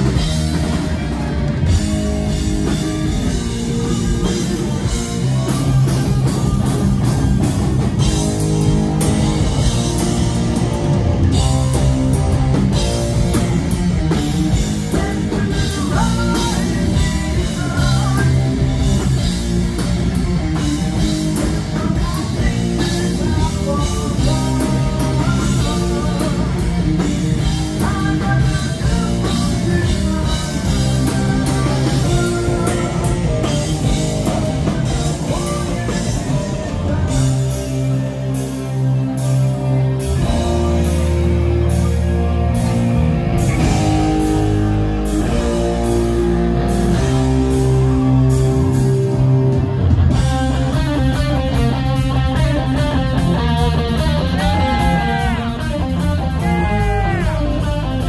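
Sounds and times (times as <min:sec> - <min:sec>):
heavy metal band playing live: 0:00.0 - 0:58.0
melodic guitar line: 0:00.0 - 0:58.0.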